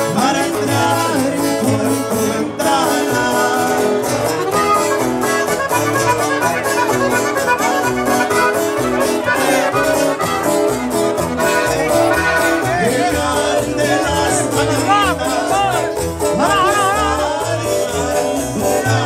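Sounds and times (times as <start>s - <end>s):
accordion: 0.0s - 19.0s
guitar: 0.0s - 19.0s
latin band music: 0.0s - 19.0s.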